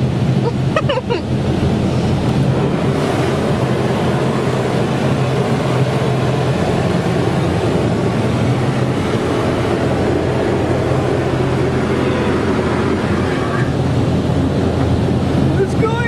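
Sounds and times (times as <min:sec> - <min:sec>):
low machinery hum: 0:00.0 - 0:16.0
water spray beating on car: 0:00.0 - 0:16.0.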